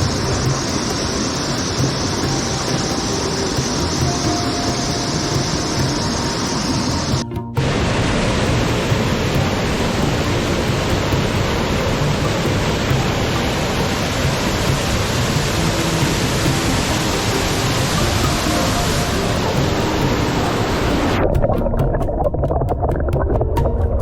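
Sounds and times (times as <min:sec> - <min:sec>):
stream water rushing: 0:00.0 - 0:23.9.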